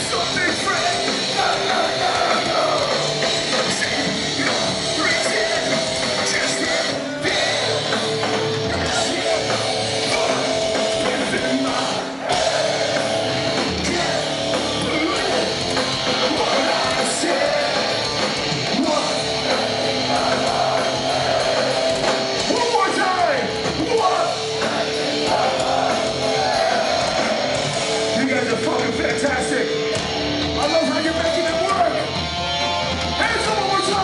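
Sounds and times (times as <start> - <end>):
punk band playing live: 0.0 - 34.0.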